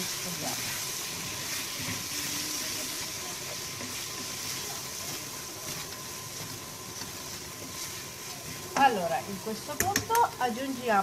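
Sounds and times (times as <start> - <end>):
potatoes sizzling in a pan: 0.0 - 11.0
spatula stirring a pan: 0.0 - 11.0.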